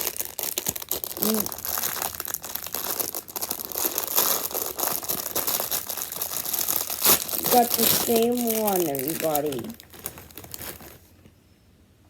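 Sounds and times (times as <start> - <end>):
plastic packaging crackling: 0.0 - 11.3.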